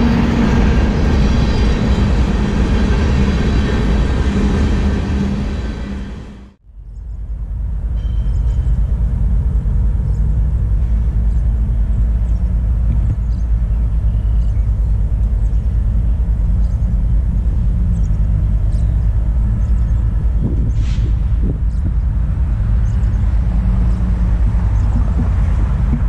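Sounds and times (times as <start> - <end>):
distant train rumble: 0.0 - 26.0
wind buffeting microphone: 0.0 - 26.0.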